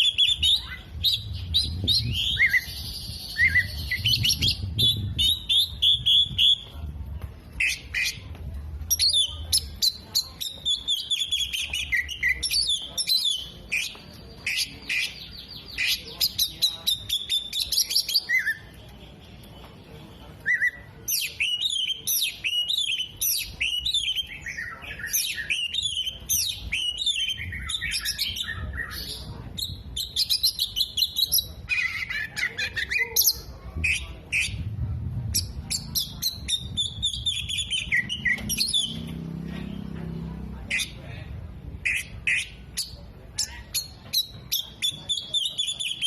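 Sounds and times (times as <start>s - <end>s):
magpie-robin singing: 0.0s - 6.7s, 7.5s - 19.6s, 20.3s - 39.9s, 40.7s - 41.0s, 41.7s - 46.0s.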